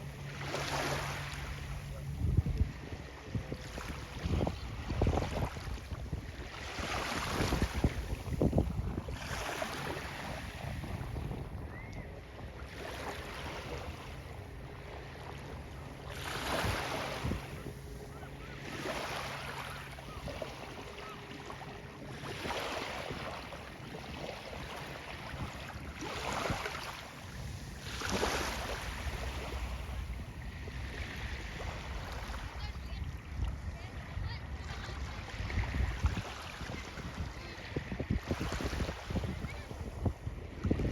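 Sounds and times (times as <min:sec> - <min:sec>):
wind on microphone: 0:01.6 - 0:12.8, 0:15.7 - 0:19.0, 0:22.3 - 0:40.9.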